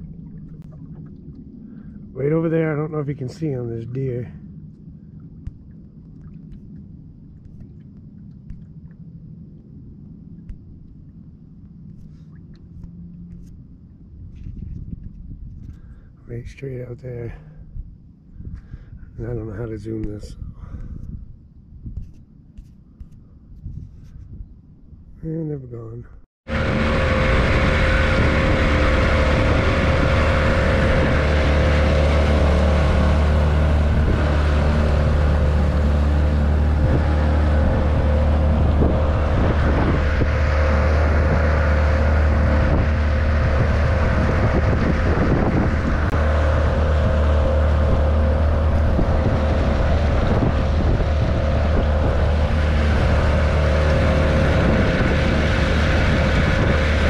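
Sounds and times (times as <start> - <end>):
outboard motor running: 0.0 - 16.4, 26.5 - 57.0.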